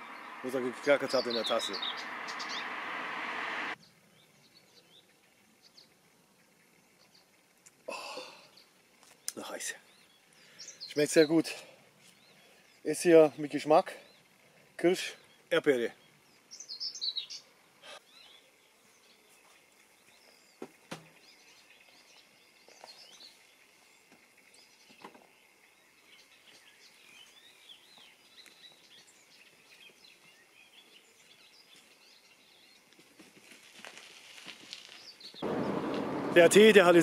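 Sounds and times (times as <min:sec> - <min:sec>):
small birds chirping: 0:00.0 - 0:03.1, 0:03.7 - 0:33.4, 0:34.7 - 0:37.0.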